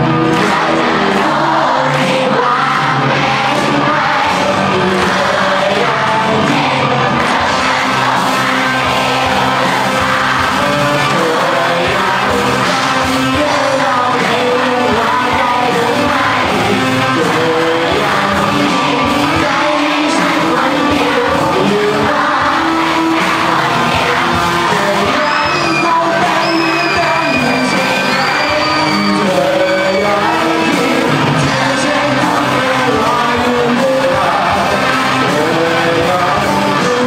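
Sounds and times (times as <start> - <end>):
drum kit: 0.0 - 37.0
electric guitars: 0.0 - 37.0
person singing and shouting: 0.0 - 37.0.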